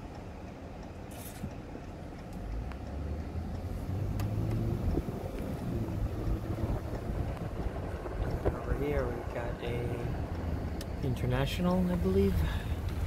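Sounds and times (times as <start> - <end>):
motor vehicle passing: 2.4 - 13.0.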